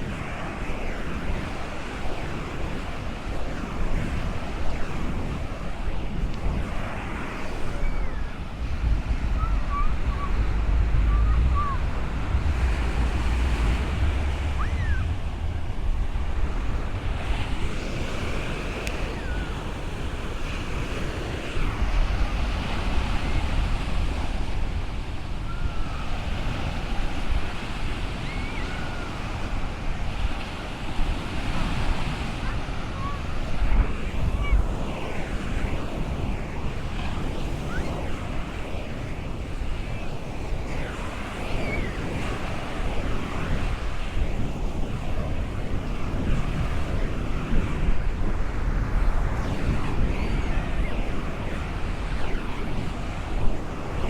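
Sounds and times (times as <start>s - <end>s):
wind buffeting microphone: 0.0s - 54.0s
ocean surf breaking: 1.4s - 54.0s.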